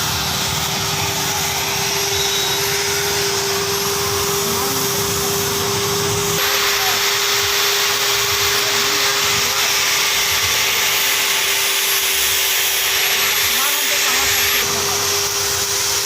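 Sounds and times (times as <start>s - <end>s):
loud even hiss: 0.0s - 16.0s
machine hum: 0.0s - 16.0s.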